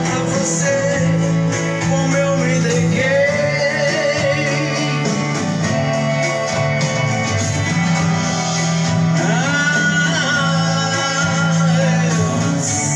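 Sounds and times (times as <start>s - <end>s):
song with guitar and singing: 0.0s - 12.9s.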